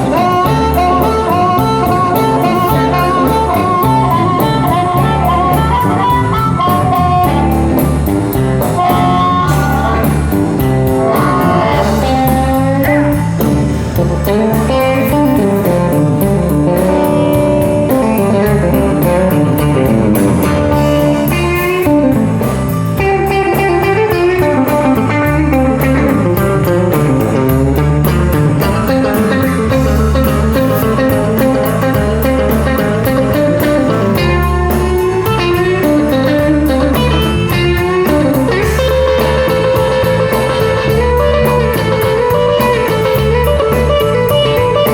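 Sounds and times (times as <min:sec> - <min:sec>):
bass guitar: 0:00.0 - 0:44.9
blues guitar: 0:00.0 - 0:44.9
drums keeping a steady beat: 0:00.0 - 0:44.9.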